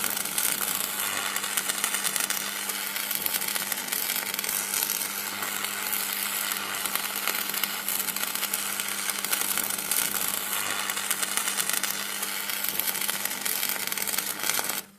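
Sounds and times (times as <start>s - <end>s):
electric crackling and sizzling: 0.0s - 14.9s.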